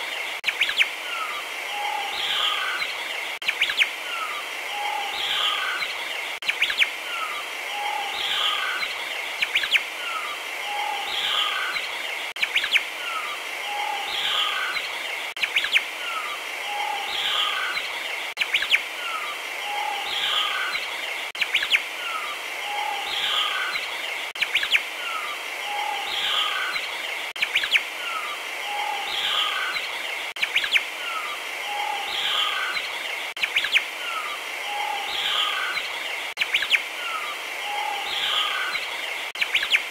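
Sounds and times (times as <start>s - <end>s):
recorded birdsong chirps and whistles: 0.0s - 39.9s.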